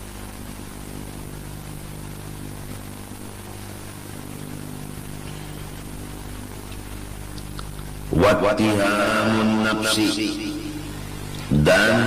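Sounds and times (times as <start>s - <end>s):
electrical hum: 0.0s - 12.0s
even hiss: 0.0s - 12.0s
steady low tones: 0.0s - 12.0s.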